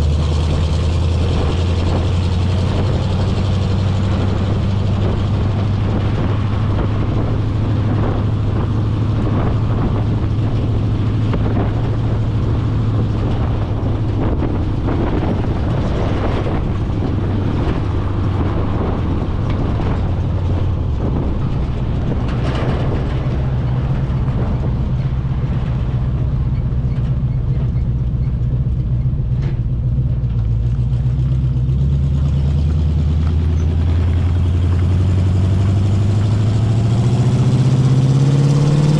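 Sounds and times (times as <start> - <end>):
truck engine running under load: 0.0 - 38.9.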